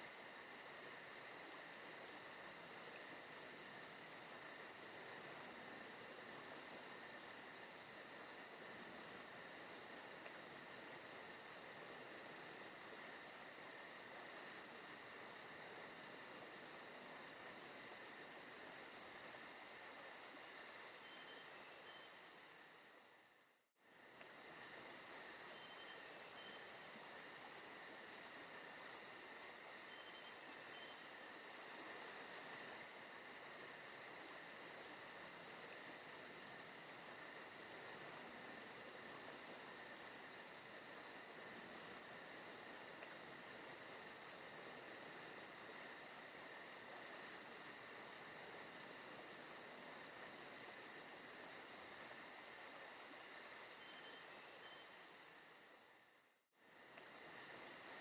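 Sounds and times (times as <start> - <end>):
crickets trilling: 0.2 - 56.0.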